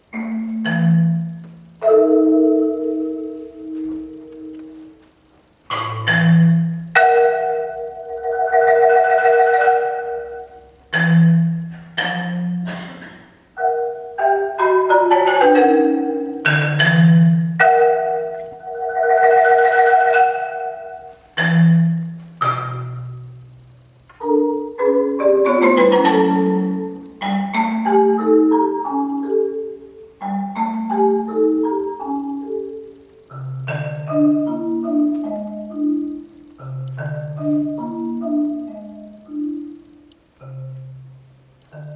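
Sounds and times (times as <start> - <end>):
marimba played with mallets: 0.0 - 41.9.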